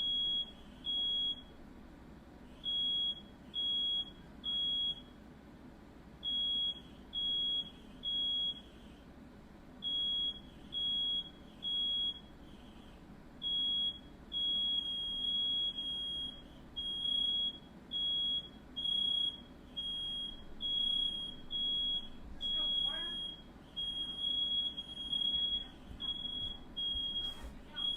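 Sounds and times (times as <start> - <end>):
smoke alarm beeping: 0.0 - 1.6, 2.6 - 5.2, 6.2 - 8.8, 9.8 - 12.8, 13.4 - 27.9.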